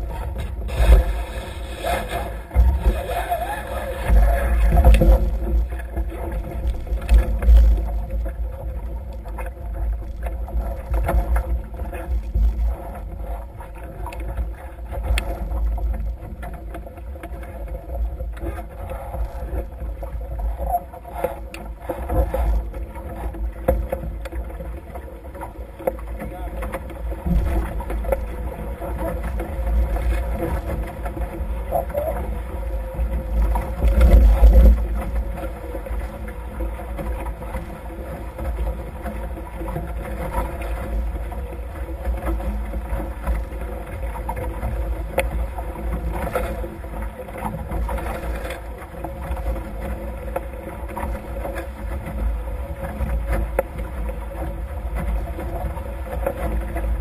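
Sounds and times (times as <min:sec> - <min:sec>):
faint steady hum: 0:00.0 - 0:57.0
water rushing along hulls: 0:00.0 - 0:57.0.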